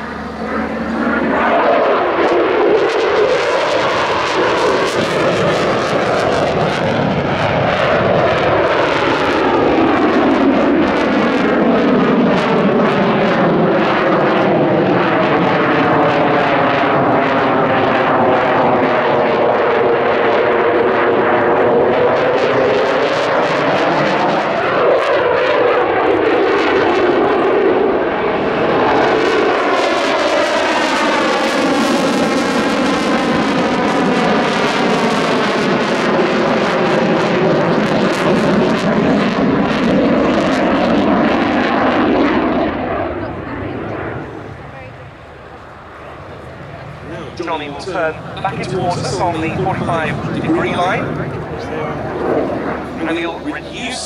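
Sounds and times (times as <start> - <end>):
fighter jet roaring overhead: 0.0 - 54.0.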